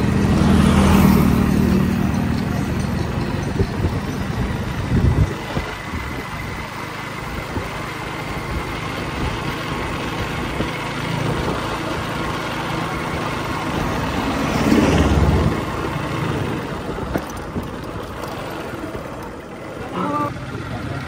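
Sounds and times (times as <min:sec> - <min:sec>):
road and wind noise: 0:00.0 - 0:21.0
vehicle engine running: 0:00.0 - 0:21.0.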